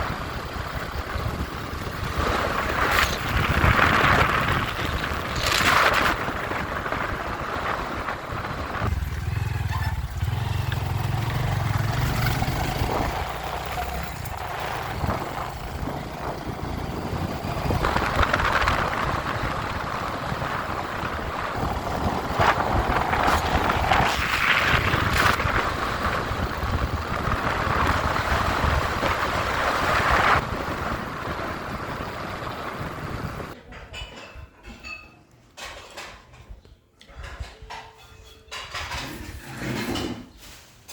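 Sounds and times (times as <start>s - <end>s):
motorcycle engine: 0.0s - 33.6s
wind and road noise: 0.0s - 35.0s.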